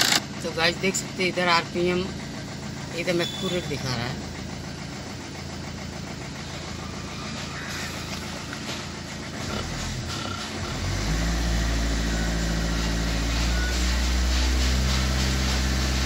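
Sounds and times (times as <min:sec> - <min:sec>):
diesel engine idling and revving: 0:00.0 - 0:16.0.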